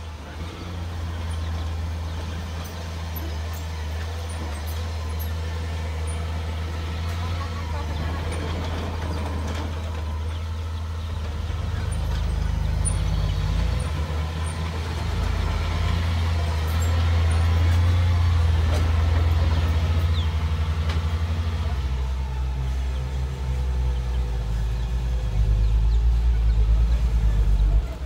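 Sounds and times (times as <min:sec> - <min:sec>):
bulldozer diesel engine pushing dirt: 0:00.0 - 0:28.0.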